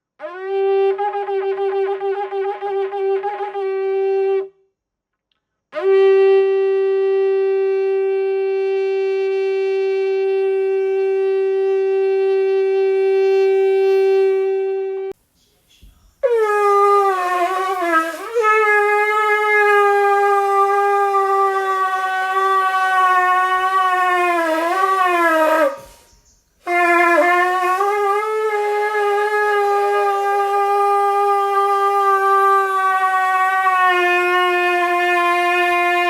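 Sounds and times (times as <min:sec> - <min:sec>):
shofar blasts: 0:00.2 - 0:04.5, 0:05.8 - 0:15.2, 0:16.2 - 0:36.0.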